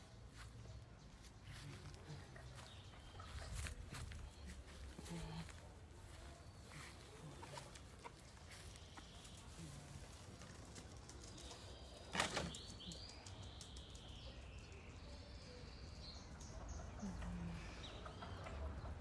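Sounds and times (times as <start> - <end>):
chickens chirping: 0.0 - 19.0.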